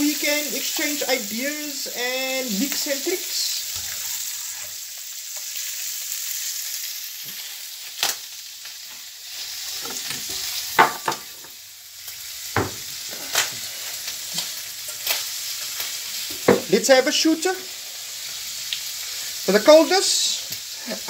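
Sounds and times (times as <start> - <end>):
squid sizzling in a pan: 0.0 - 21.0.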